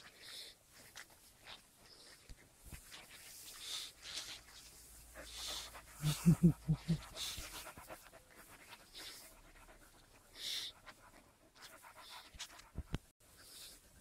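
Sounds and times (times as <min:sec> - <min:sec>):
puppies panting: 0:00.0 - 0:14.0.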